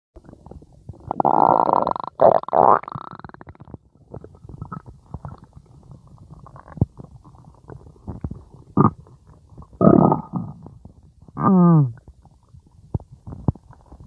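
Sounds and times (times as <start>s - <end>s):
stomach growling: 0.2s - 14.0s.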